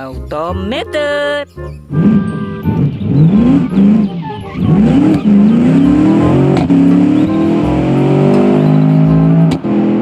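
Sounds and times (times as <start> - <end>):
car engine revving: 1.9 - 10.0.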